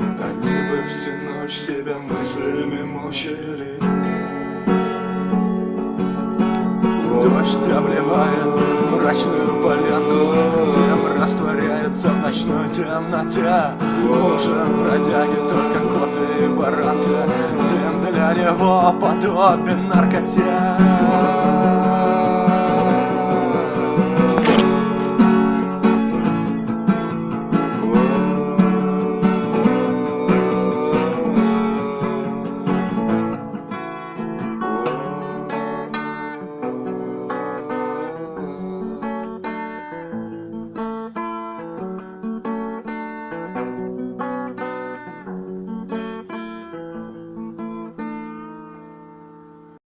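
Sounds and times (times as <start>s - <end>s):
acoustic guitar music: 0.0s - 49.8s.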